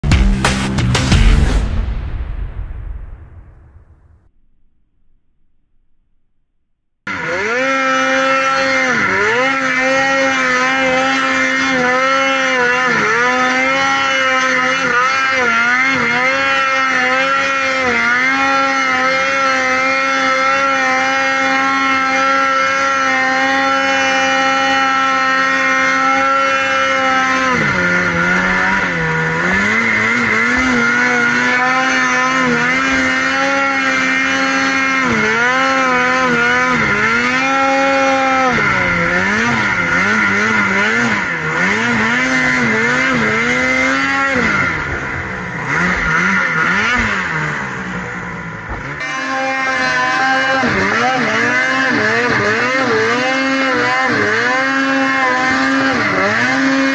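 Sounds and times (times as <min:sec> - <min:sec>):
snow machine engine revving: 0:00.0 - 0:04.2, 0:07.1 - 0:56.9.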